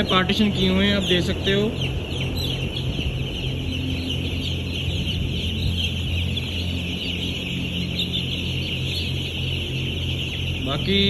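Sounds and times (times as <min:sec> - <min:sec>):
chicks peeping: 0:00.0 - 0:11.0
steady low hum: 0:00.0 - 0:11.0.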